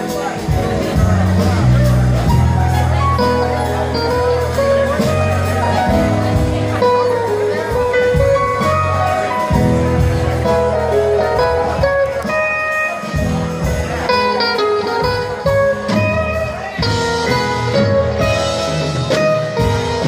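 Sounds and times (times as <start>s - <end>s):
electric guitar: 0.0s - 20.0s
low bass notes: 0.0s - 20.0s.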